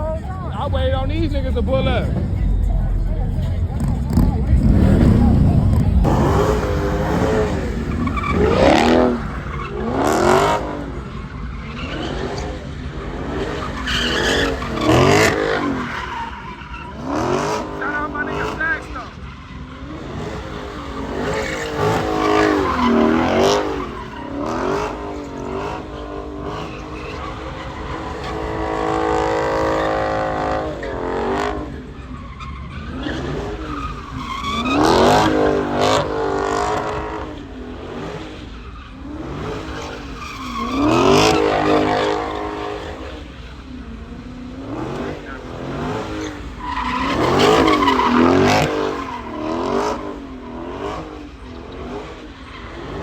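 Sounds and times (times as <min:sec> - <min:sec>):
car engine revving hard: 0:00.0 - 0:53.0
tyres squealing: 0:03.4 - 0:43.5, 0:44.5 - 0:53.0.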